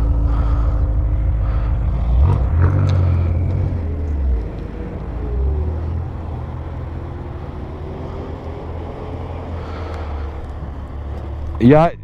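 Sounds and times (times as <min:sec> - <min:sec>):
motorcycle engine idling: 0:00.0 - 0:11.7
distant car engine revving: 0:00.0 - 0:12.0.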